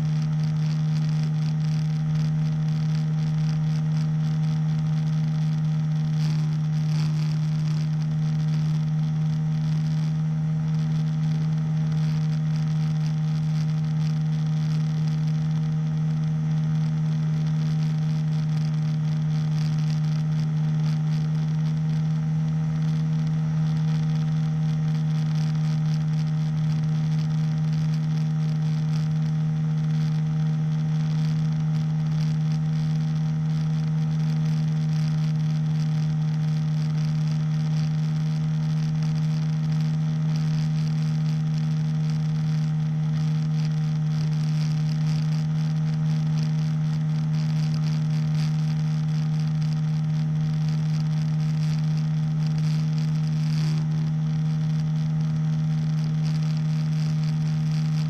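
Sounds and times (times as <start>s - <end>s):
engine droning: 0.0s - 58.0s.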